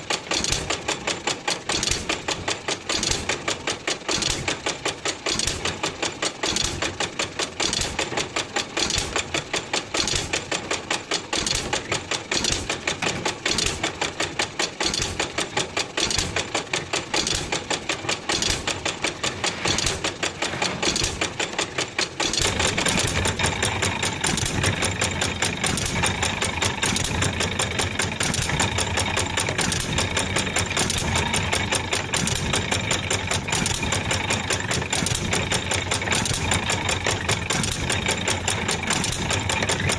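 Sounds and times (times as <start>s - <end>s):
stationary engine running: 0.0s - 39.9s
washing machine clattering: 0.0s - 39.9s.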